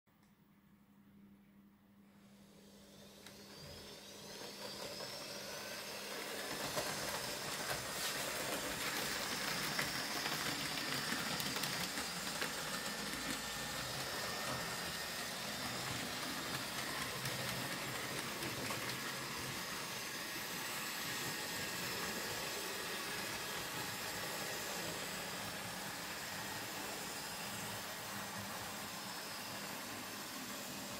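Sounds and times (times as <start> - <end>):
small electric motor whirring: 2.6 - 30.9.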